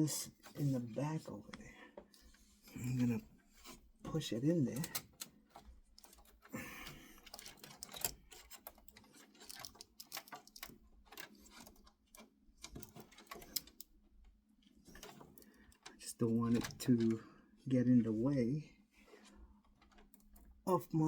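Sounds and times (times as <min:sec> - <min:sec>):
cables clicking and rustling: 0:00.3 - 0:17.3, 0:19.0 - 0:20.7.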